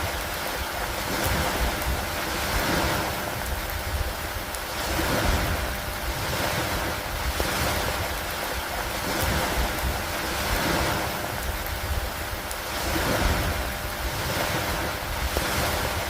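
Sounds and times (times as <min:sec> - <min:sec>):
rain over lake water: 0:00.0 - 0:16.0
wind rumble on microphone: 0:00.0 - 0:16.0.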